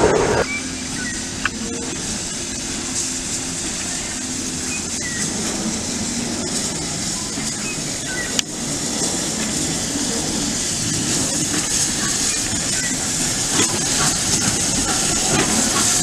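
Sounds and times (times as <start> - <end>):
steam locomotive running slowly: 0.0 - 16.0.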